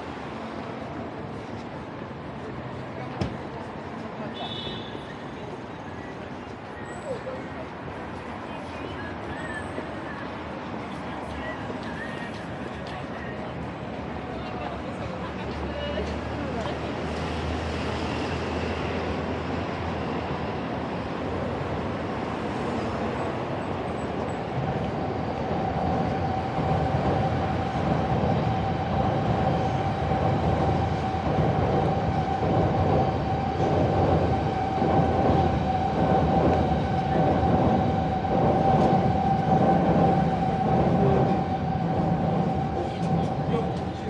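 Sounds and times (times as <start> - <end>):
train passing with steady whine: 0.0 - 44.0.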